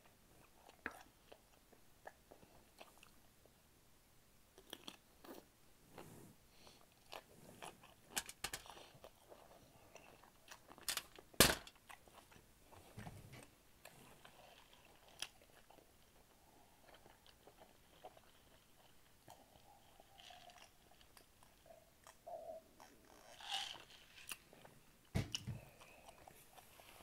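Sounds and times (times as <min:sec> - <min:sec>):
person chewing food: 0:00.0 - 0:03.2, 0:04.6 - 0:27.0.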